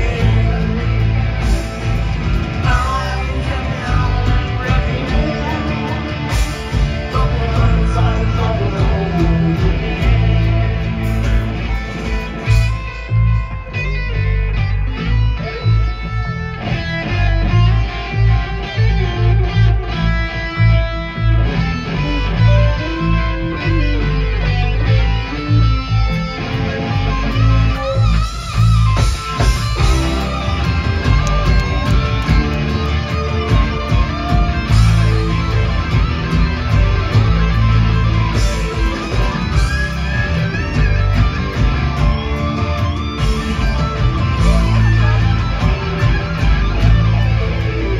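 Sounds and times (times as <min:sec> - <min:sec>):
bass guitar: 0:00.0 - 0:47.9
drums: 0:00.0 - 0:47.9
electric guitars: 0:00.0 - 0:47.9.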